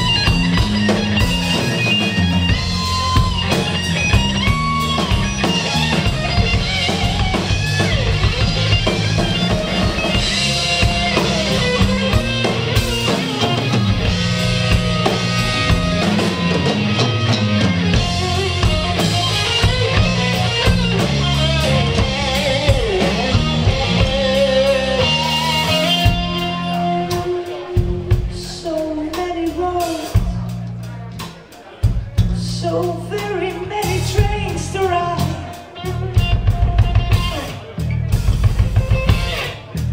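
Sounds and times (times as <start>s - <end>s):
bass guitar: 0.0s - 39.9s
drum kit: 0.0s - 39.9s
electric guitar lead line: 0.0s - 39.9s.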